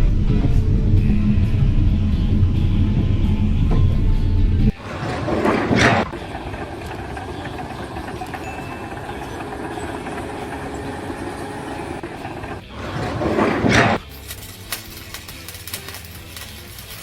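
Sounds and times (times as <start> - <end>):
engine rumble: 0.0 - 14.1.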